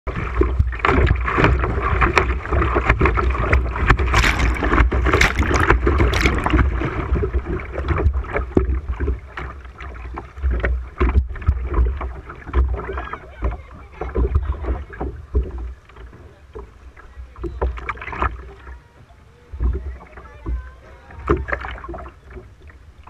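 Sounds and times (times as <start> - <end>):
river water rushing and splashing: 0.1 - 23.0.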